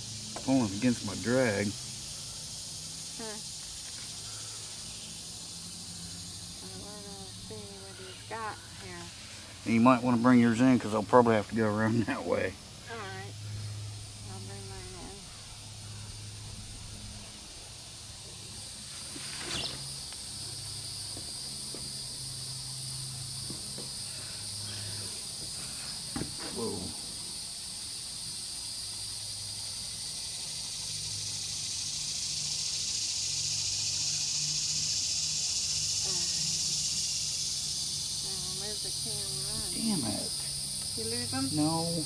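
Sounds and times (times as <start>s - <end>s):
high-pitched insect buzzing: 0.0s - 11.0s, 12.3s - 42.0s.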